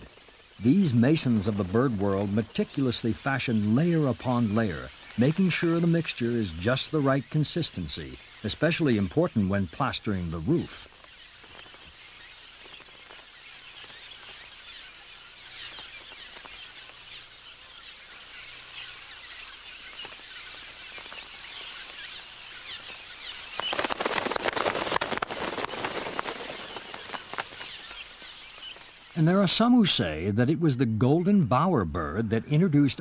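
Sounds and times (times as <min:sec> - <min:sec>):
swallows chattering: 0:00.0 - 0:33.0.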